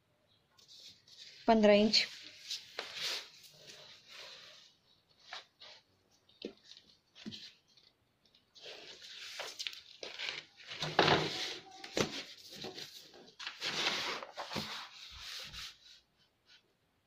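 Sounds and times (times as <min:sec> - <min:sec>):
paper rustling: 0:00.6 - 0:16.0.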